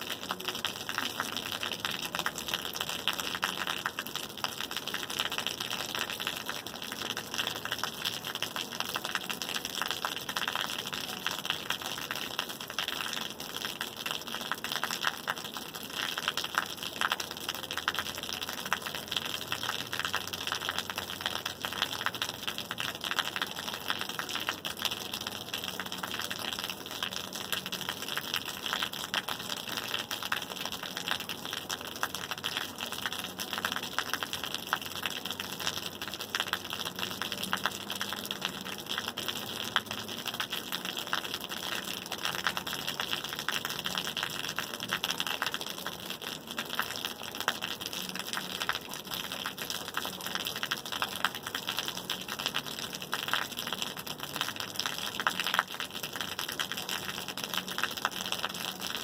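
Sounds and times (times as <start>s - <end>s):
rain drops striking a surface: 0.0s - 59.0s.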